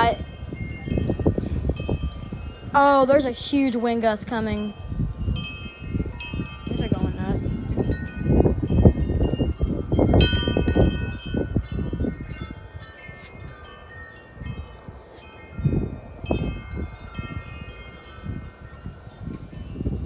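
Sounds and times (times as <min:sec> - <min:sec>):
wind chimes clanging: 0:00.0 - 0:20.0
wind gusting on microphone: 0:00.0 - 0:20.0.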